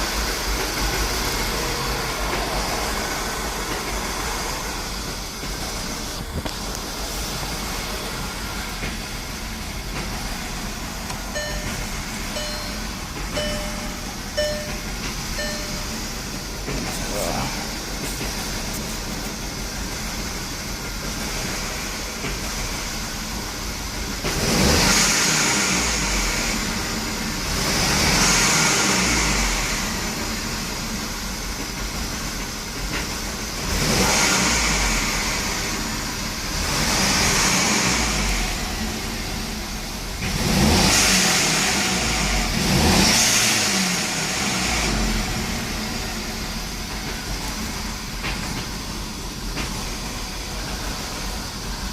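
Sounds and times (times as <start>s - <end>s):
car engine idling rough and revving: 0.0s - 51.9s.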